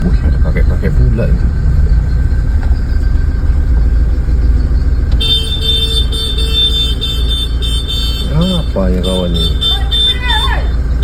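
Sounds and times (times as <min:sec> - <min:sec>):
motor vehicle rumble: 0:00.0 - 0:11.0
pulsing electronic horn tone: 0:00.8 - 0:11.0.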